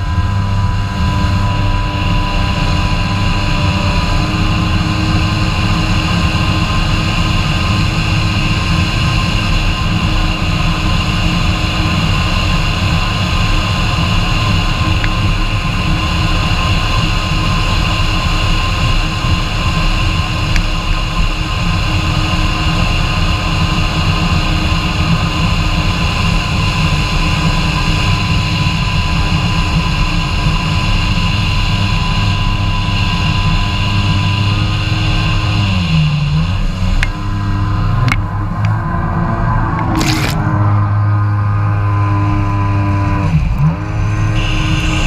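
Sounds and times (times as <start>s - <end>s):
jet ski engine running: 0.0s - 45.0s.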